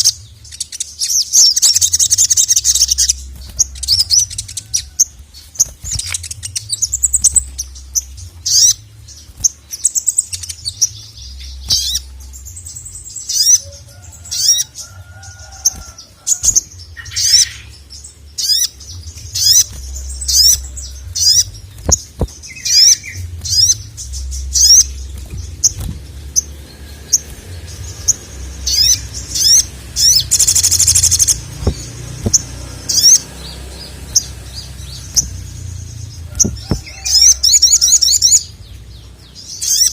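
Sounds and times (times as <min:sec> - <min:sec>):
buzzing bird trill: 0:00.0 - 0:38.5
sunbird singing: 0:00.0 - 0:39.9.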